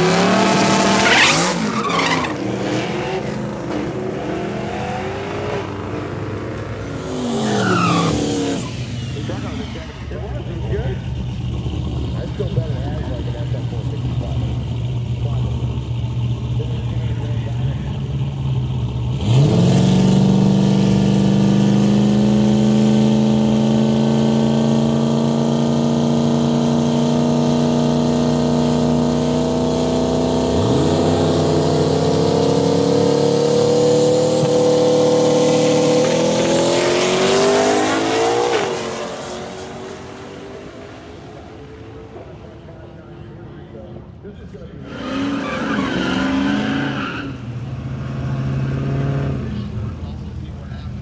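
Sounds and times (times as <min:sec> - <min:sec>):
drag car engine accelerating: 0:00.0 - 0:51.0.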